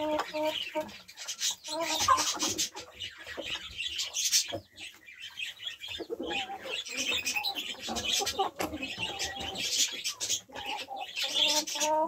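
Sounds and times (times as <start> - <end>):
hens clucking: 0.0 - 12.0
hens pecking and rustling: 0.0 - 12.0.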